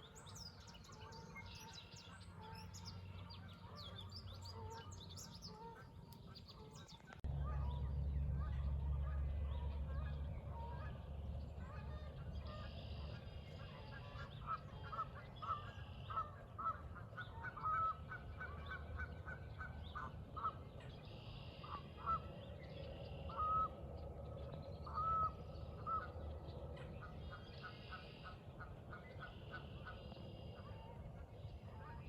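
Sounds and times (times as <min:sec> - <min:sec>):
birds calling: 0:00.0 - 0:32.0
low steady rumble: 0:00.0 - 0:32.0.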